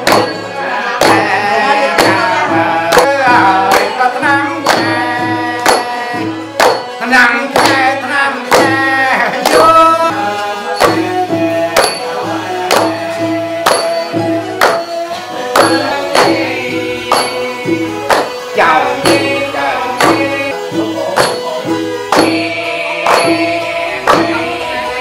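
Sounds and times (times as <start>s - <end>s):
drum beats: 0.0s - 25.0s
person singing: 0.0s - 25.0s
sustained melody instrument: 0.0s - 25.0s.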